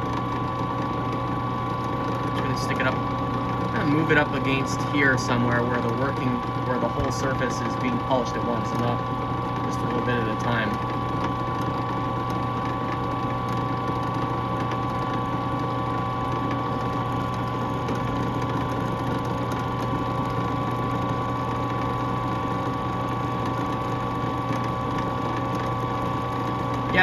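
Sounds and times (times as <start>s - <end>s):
drill press motor humming: 0.0s - 27.0s.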